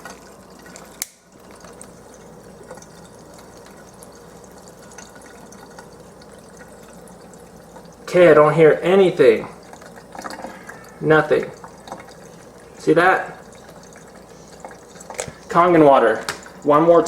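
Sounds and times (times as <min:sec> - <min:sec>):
tap water running and splattering: 0:00.0 - 0:17.0.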